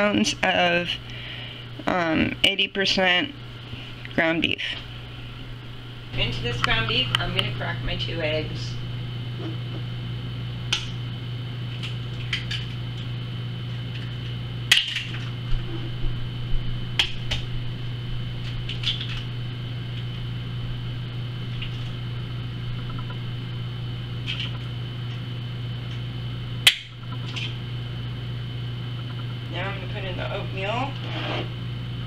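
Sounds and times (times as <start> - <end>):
low hum: 0.0 - 32.0.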